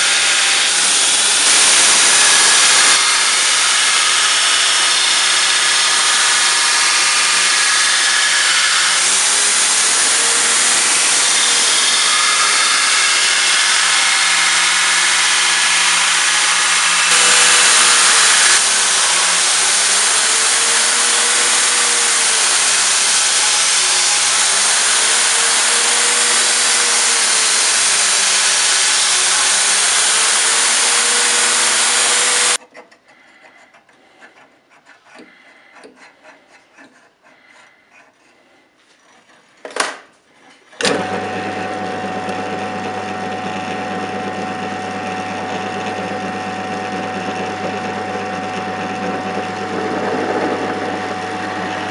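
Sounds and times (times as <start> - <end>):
belt grinder grinding steel: 0.0 - 32.6, 40.8 - 51.9
drill press motor humming: 1.3 - 32.6, 40.8 - 51.9.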